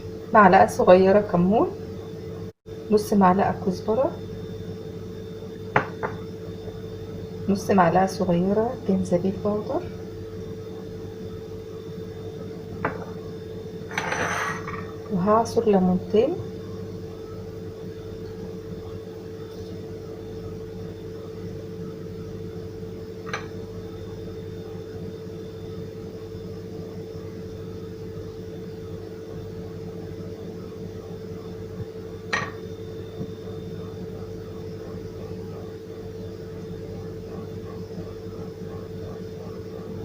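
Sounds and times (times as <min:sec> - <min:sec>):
kitchen appliance humming: 0:00.0 - 0:27.4, 0:28.2 - 0:40.0.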